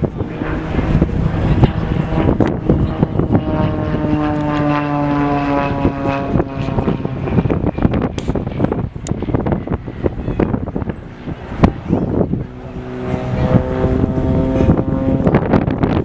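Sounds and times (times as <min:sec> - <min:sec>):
propeller airplane flying past: 0:00.0 - 0:16.0
wind buffeting microphone: 0:00.0 - 0:16.0.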